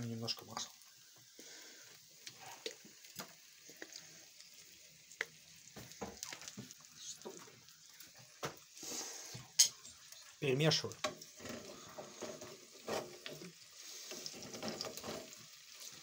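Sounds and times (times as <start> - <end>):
dumplings sizzling in a frying pan: 0.0 - 16.0
oil crackling and popping: 0.0 - 16.0.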